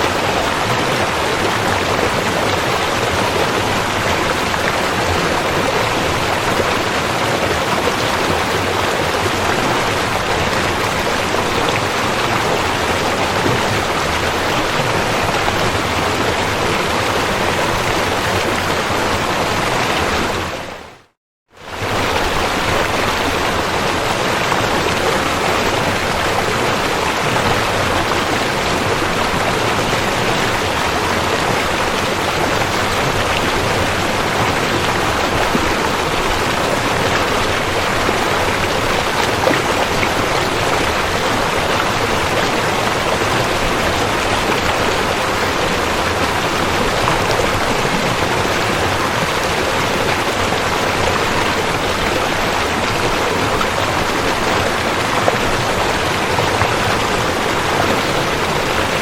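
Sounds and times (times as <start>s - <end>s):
river rushing over rocks: 0.0s - 20.8s, 21.6s - 59.0s.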